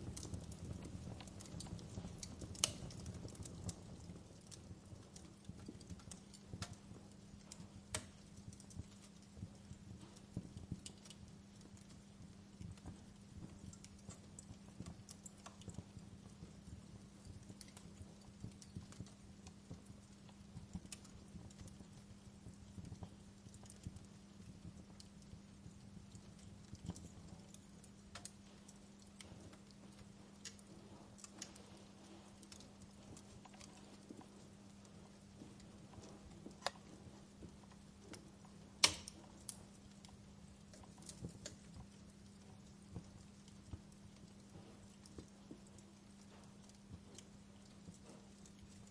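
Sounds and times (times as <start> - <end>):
log fire crackling and popping: 0.0 - 48.9
soft fire hiss: 0.0 - 48.9.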